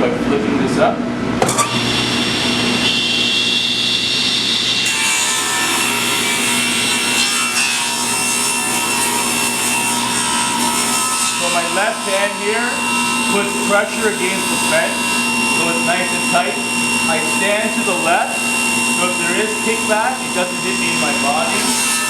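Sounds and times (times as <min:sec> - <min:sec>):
table saw whining: 0:01.4 - 0:22.0.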